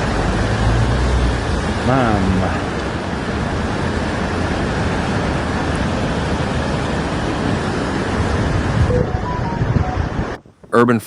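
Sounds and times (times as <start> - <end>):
floodwater rushing: 0.0 - 10.4.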